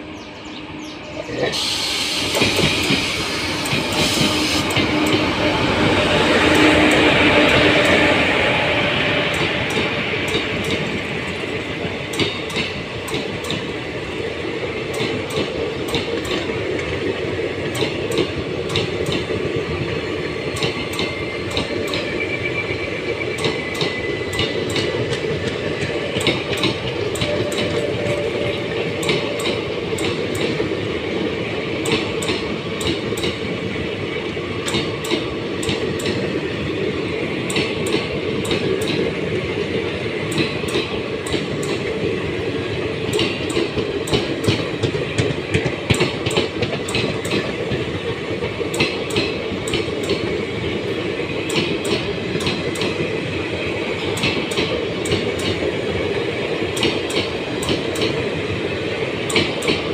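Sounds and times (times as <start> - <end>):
passenger train passing: 0.0 - 59.9.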